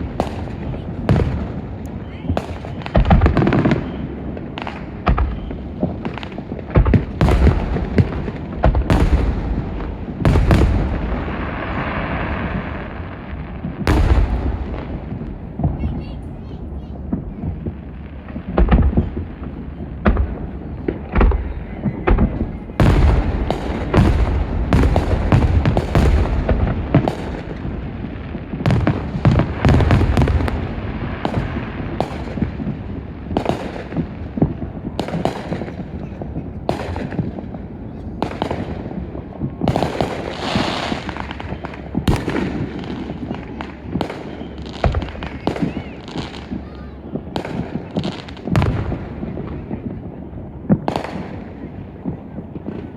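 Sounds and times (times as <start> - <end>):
fireworks bangs and booms: 0.0 - 52.9.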